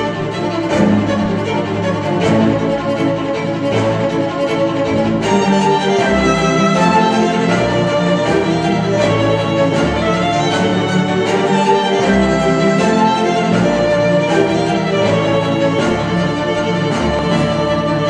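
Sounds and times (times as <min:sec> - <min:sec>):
cinematic orchestral strings: 0:00.0 - 0:18.0.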